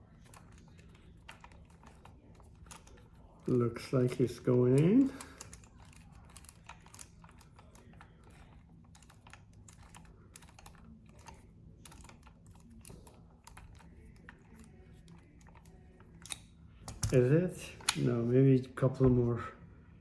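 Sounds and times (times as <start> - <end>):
small clicks of parts worked by hand: 0.2 - 18.1.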